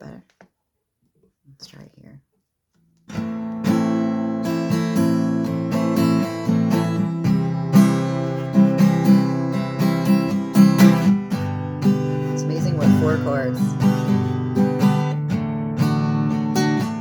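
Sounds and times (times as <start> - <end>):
acoustic guitar strummed chords: 3.1 - 17.0.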